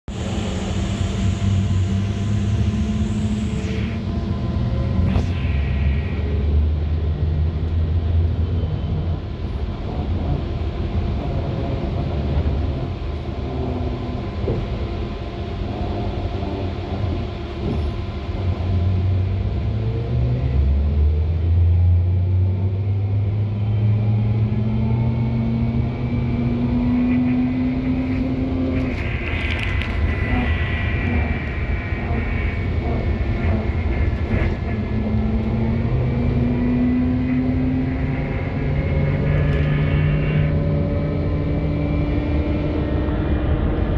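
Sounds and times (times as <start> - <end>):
trolleybus rumbling: 0.0 - 43.9.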